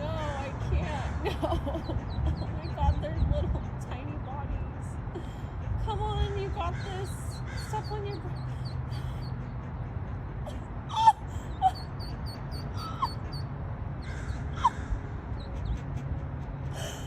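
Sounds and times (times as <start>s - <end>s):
steady low hum: 0.0s - 17.0s
ducklings peeping: 0.2s - 4.8s, 5.8s - 10.4s, 11.5s - 17.0s.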